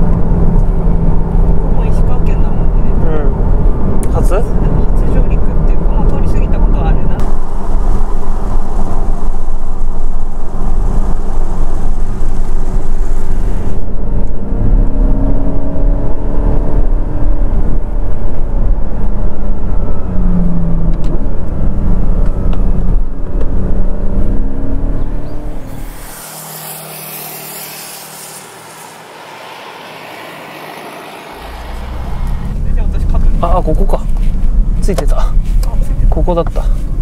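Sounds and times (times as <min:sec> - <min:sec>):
car engine drone: 0:00.0 - 0:37.0
road and tyre noise: 0:00.0 - 0:37.0.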